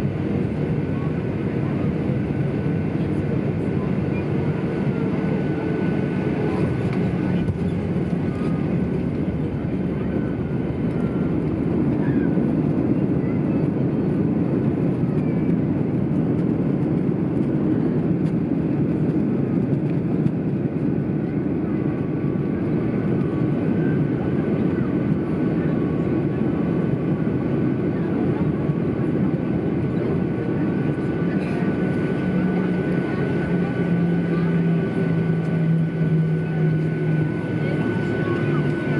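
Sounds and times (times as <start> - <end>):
jet engine roar in cabin: 0.0 - 38.9.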